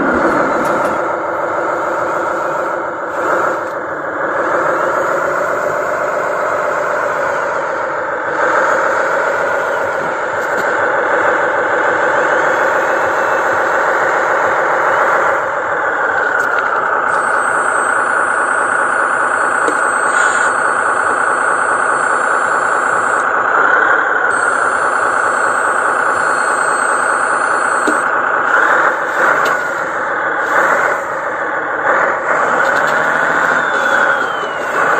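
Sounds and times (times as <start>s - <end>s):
high whine: 0.0s - 34.9s
truck engine drone: 0.0s - 34.9s.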